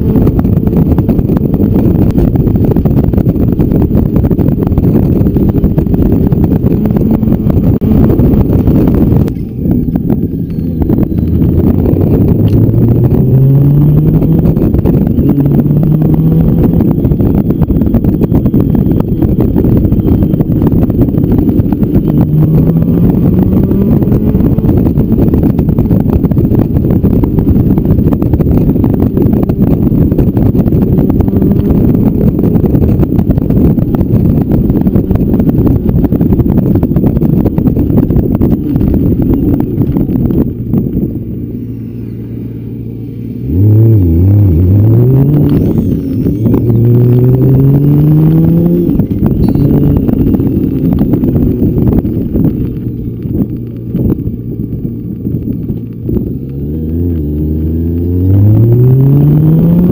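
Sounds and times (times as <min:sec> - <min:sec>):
motorcycle engine accelerating: 0:00.0 - 0:59.9
wind rush on microphone: 0:00.0 - 0:59.9.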